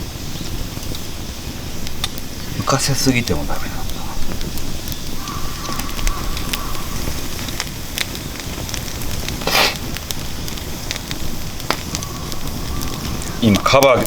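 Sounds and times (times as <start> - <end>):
fire crackling and popping: 0.0 - 14.0
fire hissing flare: 0.0 - 14.0
fire rumbling: 0.0 - 14.0.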